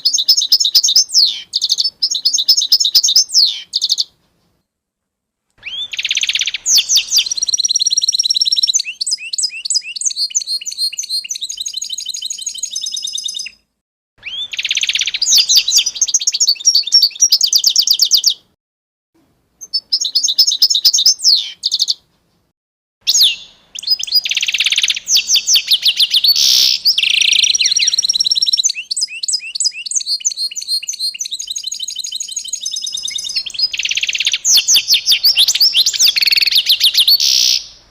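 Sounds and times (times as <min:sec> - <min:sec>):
songbirds chirping and trilling: 0:00.0 - 0:04.6, 0:05.6 - 0:18.6, 0:19.6 - 0:22.5, 0:23.1 - 0:37.9.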